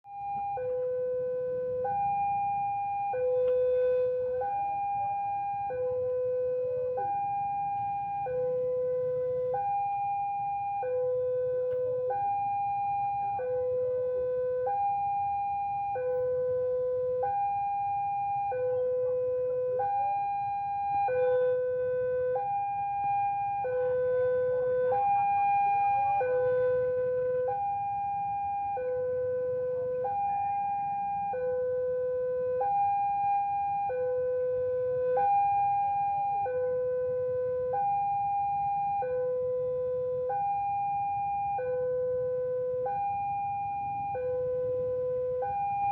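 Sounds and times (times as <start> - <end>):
two-tone electronic warning signal: 0.0 - 45.9.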